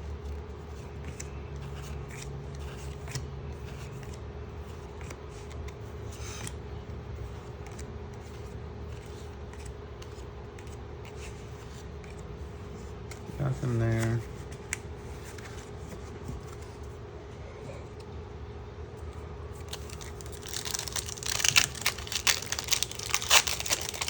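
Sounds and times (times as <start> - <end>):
steady low hum: 0.0 - 24.0
trading cards rustling and clicking: 0.3 - 6.6, 7.3 - 17.0, 19.0 - 24.0.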